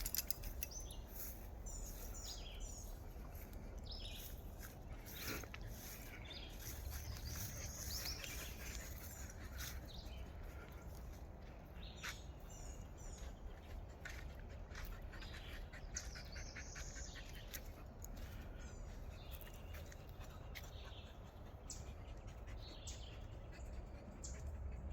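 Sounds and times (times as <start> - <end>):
birds chirping: 0.0 - 24.6.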